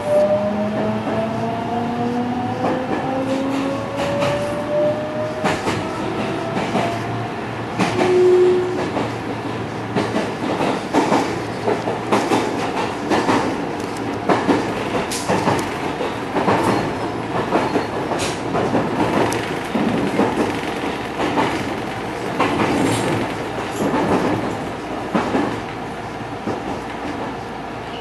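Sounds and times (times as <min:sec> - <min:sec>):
train running rumble: 0:00.6 - 0:28.0.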